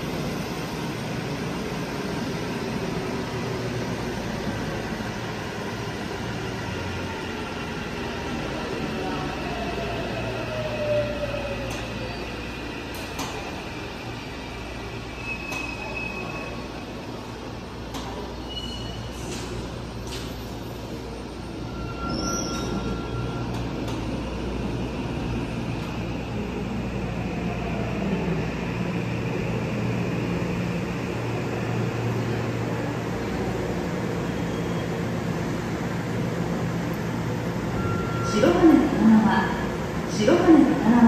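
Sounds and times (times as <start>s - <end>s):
subway train rumble: 0.0s - 41.0s.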